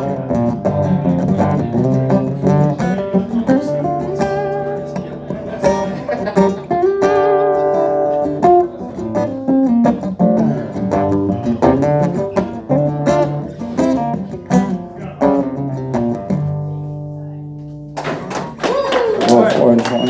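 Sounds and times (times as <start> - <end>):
acoustic guitar playing: 0.0 - 18.6.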